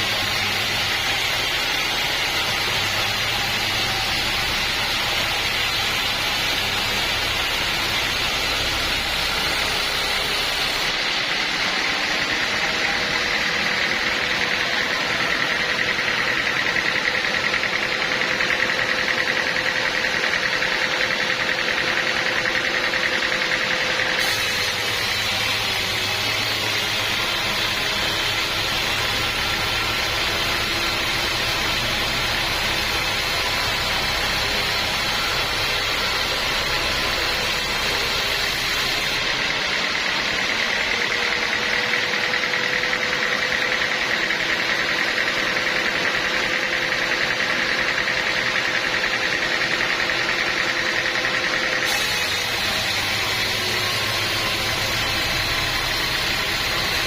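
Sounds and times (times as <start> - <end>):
sawmill engine and saw running: 0.0 - 57.0.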